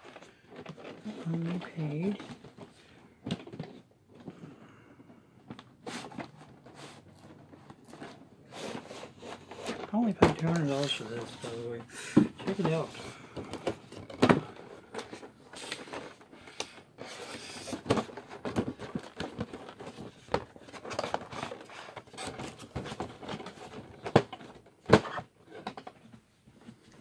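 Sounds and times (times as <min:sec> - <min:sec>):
handling clicks and rustles: 0:00.0 - 0:27.0.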